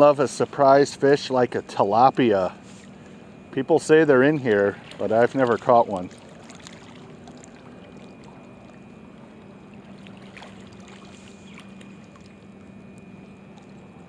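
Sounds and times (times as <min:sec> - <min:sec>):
steady low hum: 0:00.0 - 0:14.0
small waves lapping: 0:02.6 - 0:14.0.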